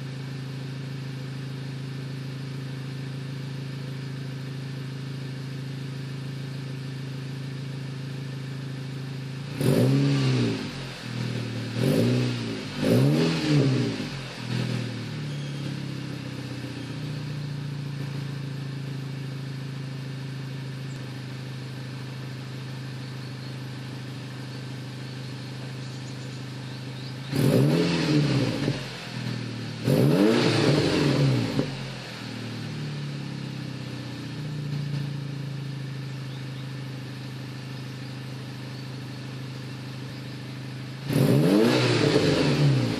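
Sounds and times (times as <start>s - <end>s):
car engine idling and revving: 0.0s - 42.9s.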